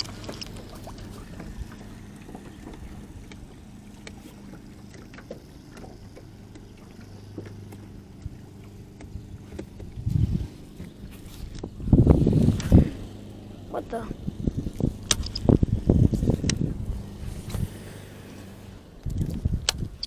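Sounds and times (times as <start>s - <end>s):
boat motor humming: 0.0s - 20.0s
low rumble: 0.0s - 20.0s.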